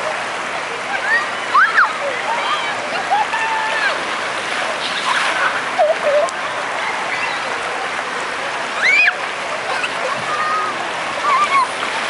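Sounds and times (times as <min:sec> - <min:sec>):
splashing water: 0:00.0 - 0:12.0.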